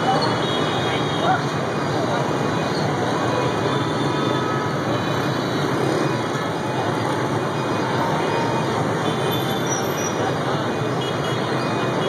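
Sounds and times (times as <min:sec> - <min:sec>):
cars passing: 0:00.0 - 0:12.0
motorbike and scooter engines: 0:00.0 - 0:12.0.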